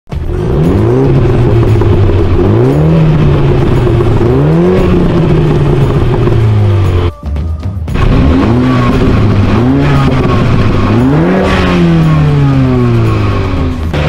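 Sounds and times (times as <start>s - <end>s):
car engine revving from idle: 0.2s - 7.1s, 8.0s - 14.0s.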